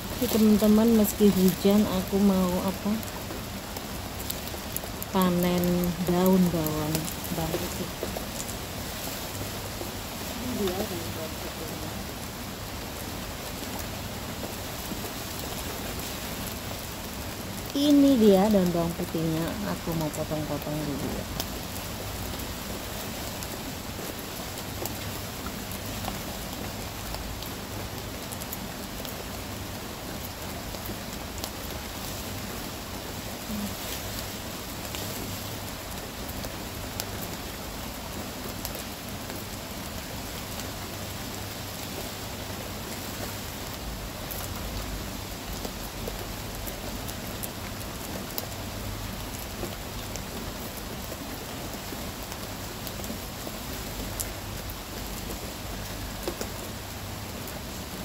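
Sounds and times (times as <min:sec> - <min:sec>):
steady rain falling: 0:00.0 - 0:58.0
raindrop ticks: 0:00.1 - 0:08.8, 0:09.4 - 0:41.4, 0:42.4 - 0:58.0.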